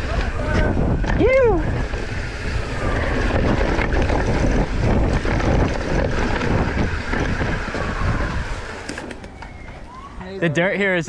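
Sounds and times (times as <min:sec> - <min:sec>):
wind buffeting microphone: 0:00.0 - 0:10.2
bike clattering and rattling: 0:00.0 - 0:10.4
tyres rumbling on dirt: 0:00.0 - 0:11.0.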